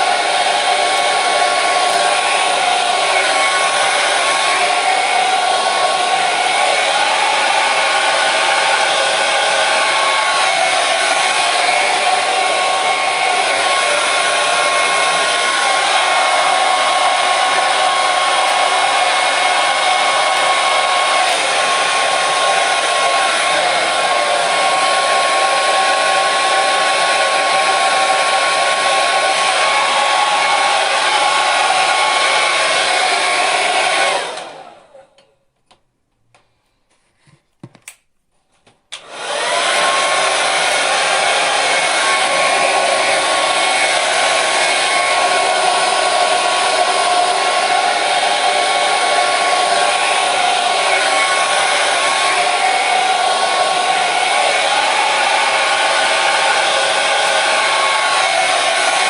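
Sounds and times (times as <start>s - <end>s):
hair dryer running: 0.0s - 35.2s, 38.9s - 59.0s.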